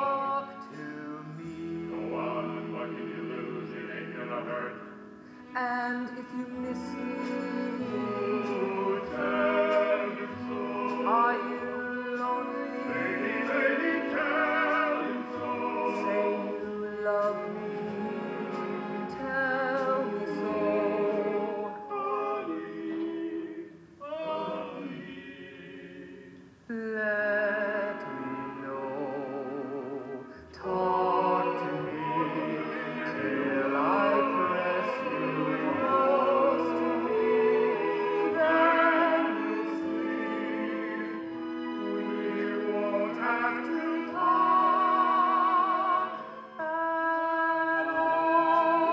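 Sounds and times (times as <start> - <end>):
men singing in harmony: 0.0 - 5.0, 6.2 - 26.4, 27.4 - 48.9
musical accompaniment: 0.0 - 48.9.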